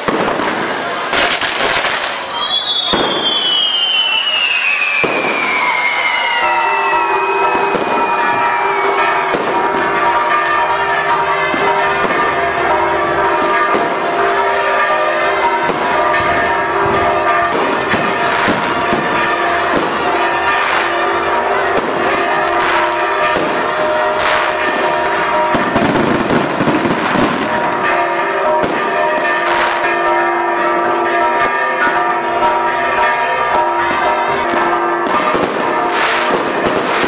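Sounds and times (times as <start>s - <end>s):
firework bangs and crackles: 0.0s - 30.0s, 33.5s - 37.0s
church bells pealing: 0.0s - 37.0s.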